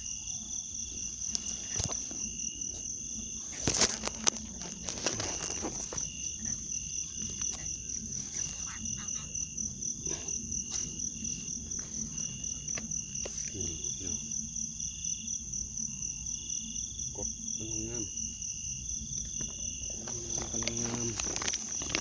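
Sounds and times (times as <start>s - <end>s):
high fast-pulsing insect trill: 0.0s - 22.0s
lower insect trill: 0.0s - 22.0s.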